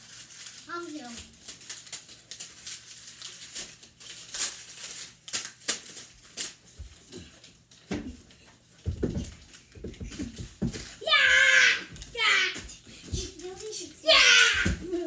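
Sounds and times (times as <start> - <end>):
paper rustling and crackling: 0.0 - 15.0.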